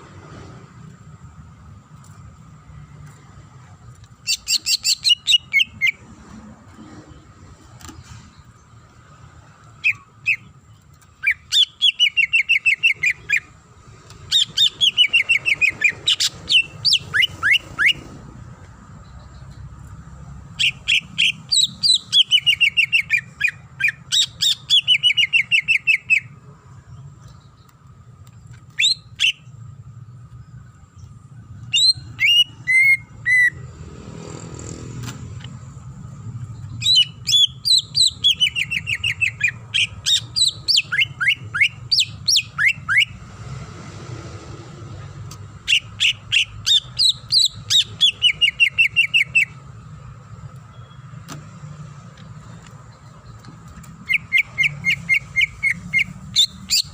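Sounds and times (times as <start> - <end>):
bird singing rapid trills: 4.2 - 6.0, 8.2 - 43.4, 45.3 - 56.9.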